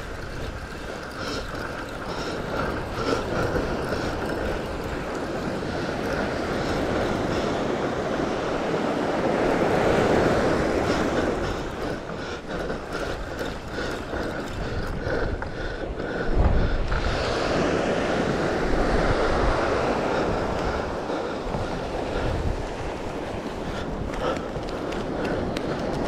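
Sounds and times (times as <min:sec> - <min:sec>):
surf washing onto beach: 0:00.0 - 0:15.4, 0:16.4 - 0:26.0
wind buffeting microphone: 0:00.0 - 0:26.0.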